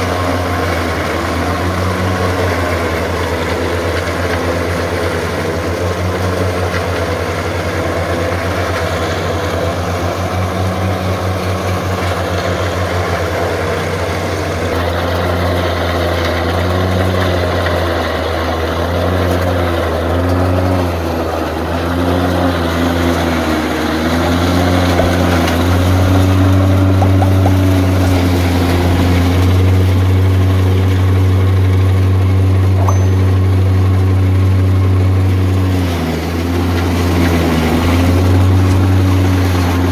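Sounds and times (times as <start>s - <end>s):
forage chopper chopping stalks: 0.0s - 39.9s
tractor engine: 0.0s - 39.9s.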